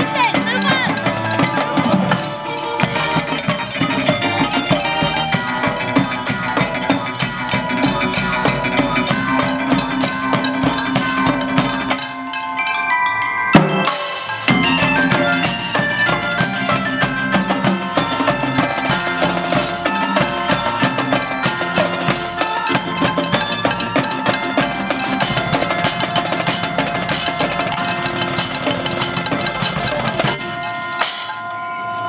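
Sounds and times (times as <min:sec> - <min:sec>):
marching snare and bass drums: 0:00.0 - 0:12.2, 0:13.6 - 0:31.5
music: 0:00.0 - 0:32.0.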